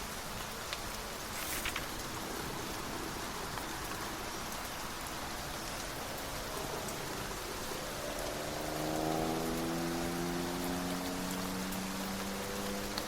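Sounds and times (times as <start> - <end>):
rain hissing on a surface: 0.0 - 13.0.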